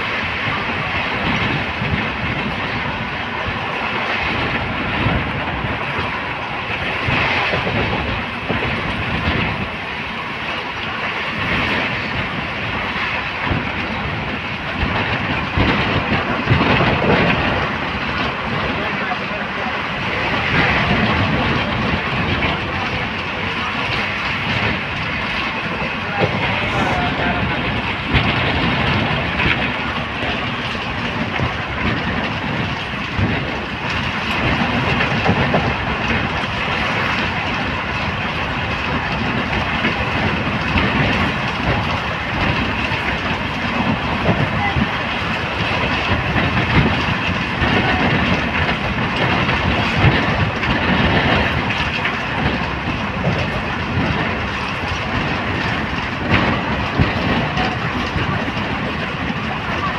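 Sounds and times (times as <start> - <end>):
train rumble: 0.0 - 59.9
wheels clattering on rails: 0.0 - 59.9.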